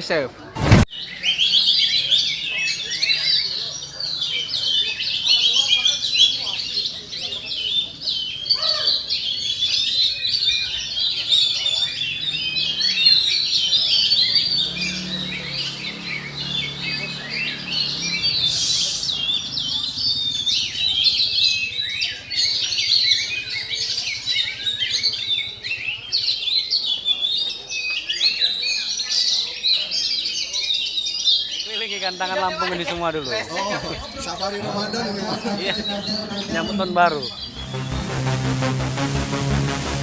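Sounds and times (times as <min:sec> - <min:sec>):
birds whistling and chirping: 0:00.9 - 0:37.9.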